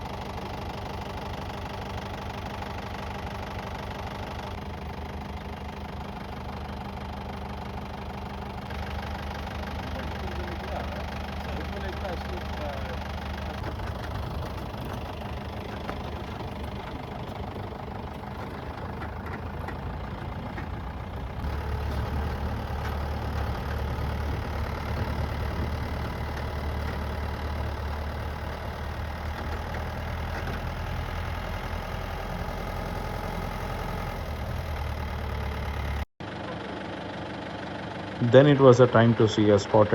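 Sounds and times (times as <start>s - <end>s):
jeep engine droning: 0.0s - 39.9s.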